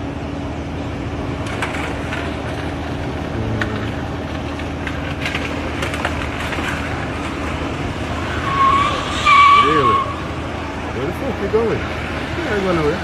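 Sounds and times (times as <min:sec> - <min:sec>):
street and vehicle noise: 0:00.0 - 0:13.0.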